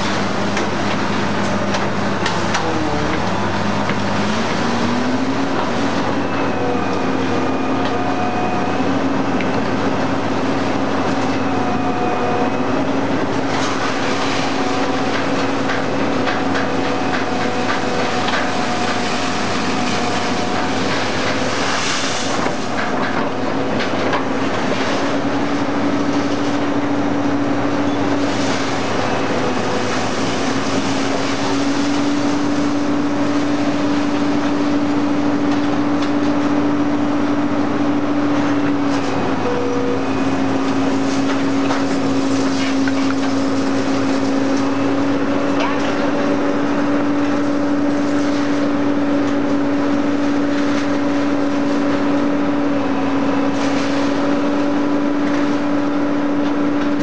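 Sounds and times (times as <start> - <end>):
hydraulic power pack humming: 0.0 - 57.0.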